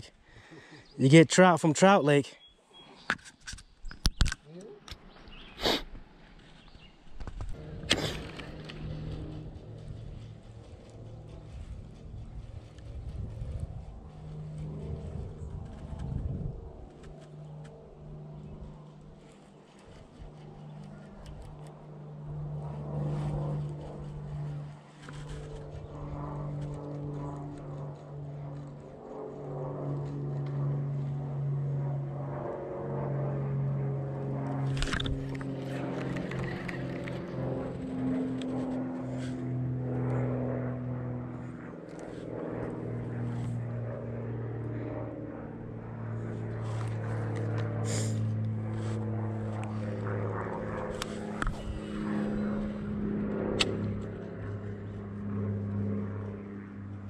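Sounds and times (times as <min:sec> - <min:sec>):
engine drone: 0:04.1 - 0:57.0.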